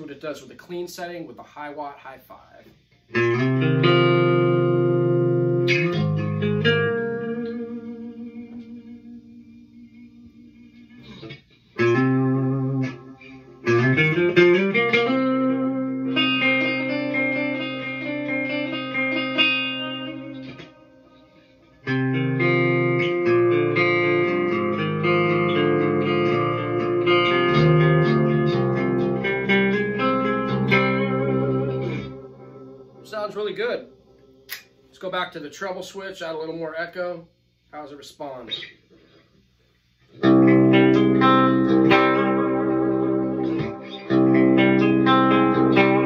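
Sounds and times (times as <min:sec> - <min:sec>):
clean electric guitar chords: 0:03.0 - 0:34.7, 0:40.1 - 0:46.0.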